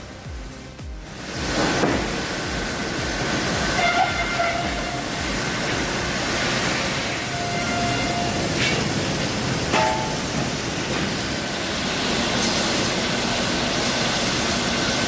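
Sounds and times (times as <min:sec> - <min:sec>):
sawmill machinery rumbling: 0:00.0 - 0:15.0.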